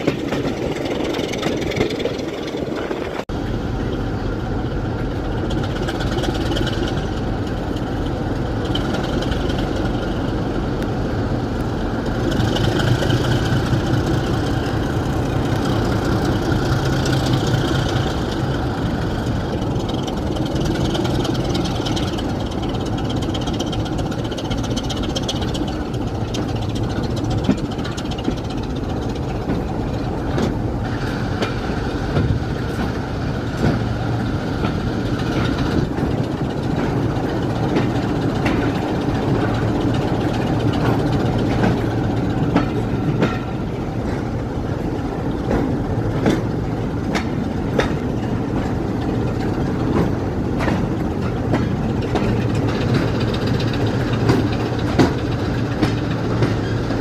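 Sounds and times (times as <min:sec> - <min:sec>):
wheels clicking over rail joints: 0:00.0 - 0:10.9, 0:11.6 - 0:57.0
train running on rails: 0:00.0 - 0:57.0.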